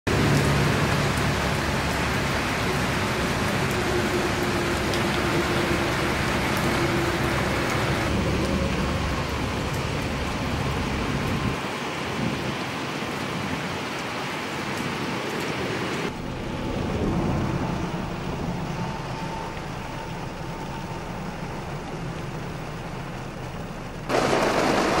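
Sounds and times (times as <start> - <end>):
steady rain falling: 0.1 - 25.0.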